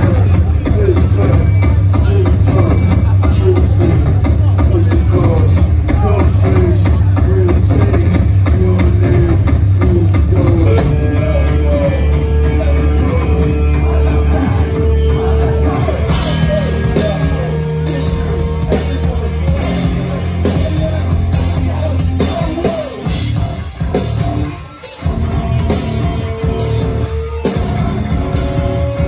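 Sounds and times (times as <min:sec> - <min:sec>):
punk band playing loud: 0:00.0 - 0:29.0.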